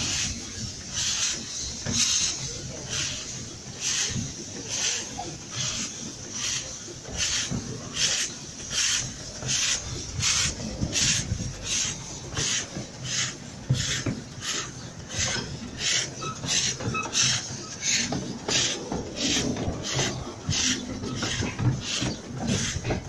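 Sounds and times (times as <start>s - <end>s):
carriage rumbling on rails: 0.0s - 23.0s
steam locomotive chuffing: 0.0s - 23.0s.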